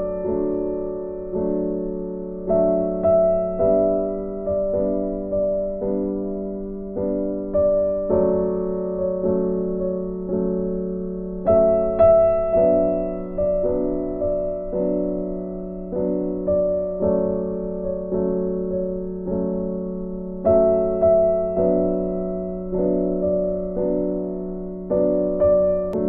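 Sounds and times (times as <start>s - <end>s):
gentle electric piano chords: 0.0s - 26.0s.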